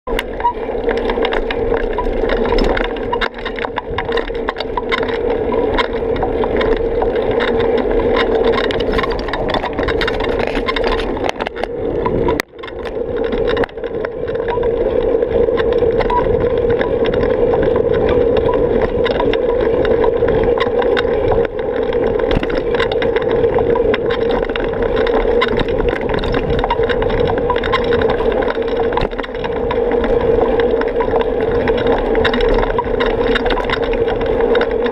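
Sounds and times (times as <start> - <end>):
bicycle road rumble: 0.1 - 34.9
wind: 0.1 - 34.9.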